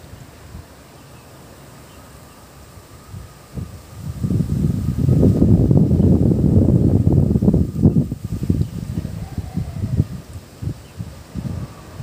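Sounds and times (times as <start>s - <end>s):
wind buffeting microphone: 2.0s - 12.0s.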